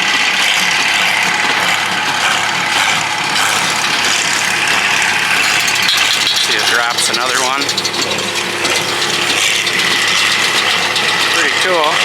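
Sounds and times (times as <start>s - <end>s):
baler rhythmic clatter: 0.0s - 12.0s
tractor engine: 0.0s - 12.0s.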